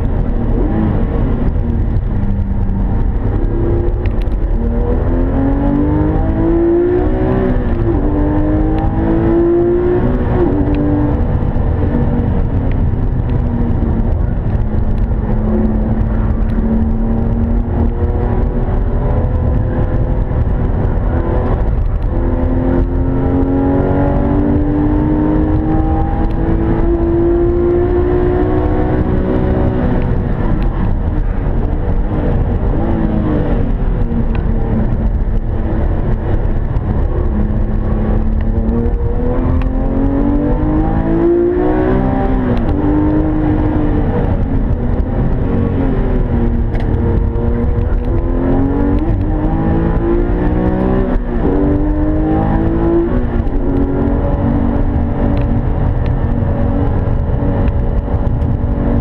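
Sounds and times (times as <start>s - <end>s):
car engine revving: 0.0s - 59.0s
road and wind rumble: 0.0s - 59.0s.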